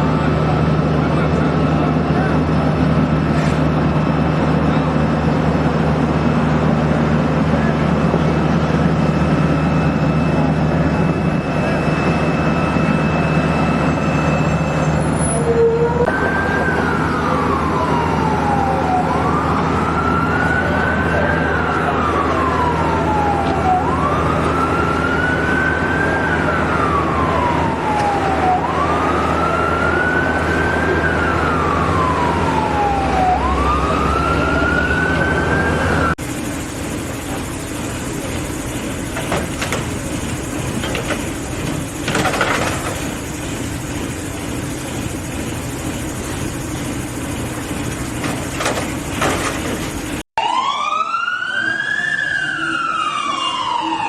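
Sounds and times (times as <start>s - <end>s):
traffic noise: 0.0s - 50.2s
engine hum: 0.0s - 50.3s
fire truck siren wailing: 0.0s - 54.0s.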